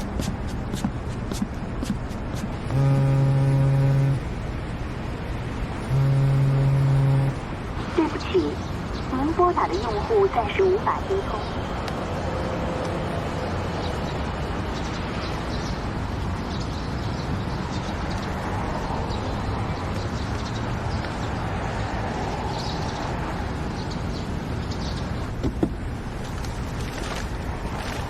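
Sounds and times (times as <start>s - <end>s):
distant traffic hum: 0.0s - 28.0s.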